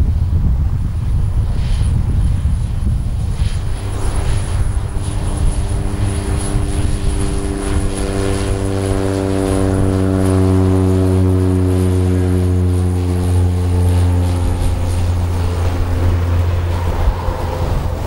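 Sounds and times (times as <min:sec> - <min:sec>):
high turbine whine: 0:00.0 - 0:18.0
propeller drone: 0:00.0 - 0:18.0.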